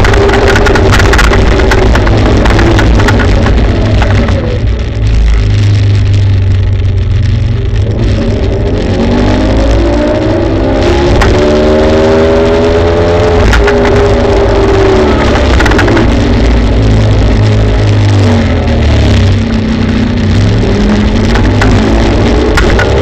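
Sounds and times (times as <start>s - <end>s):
road rumble: 0.0s - 23.0s.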